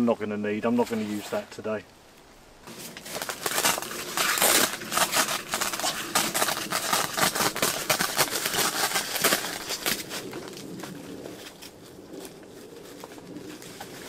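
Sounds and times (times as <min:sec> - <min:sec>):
tent fabric rustling and crackling: 0:00.6 - 0:01.8, 0:02.6 - 0:14.0.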